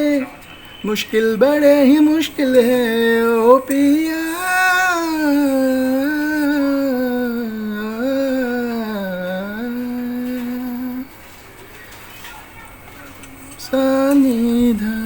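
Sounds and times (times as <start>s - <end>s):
man singing unaccompanied: 0.0s - 11.2s, 13.0s - 15.0s.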